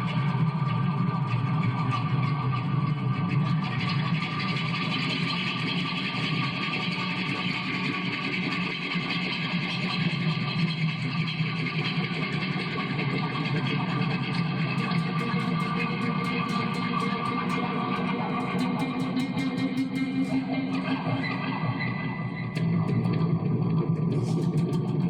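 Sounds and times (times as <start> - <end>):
noisy bass guitar drone: 0.0 - 25.0.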